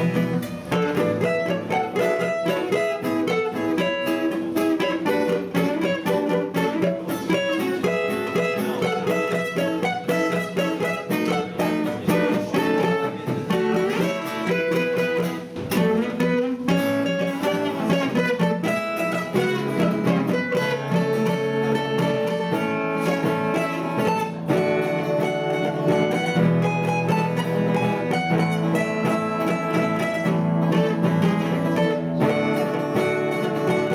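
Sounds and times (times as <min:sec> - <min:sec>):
plucked acoustic guitar notes: 0:00.0 - 0:33.9
strummed acoustic guitar: 0:00.0 - 0:33.9.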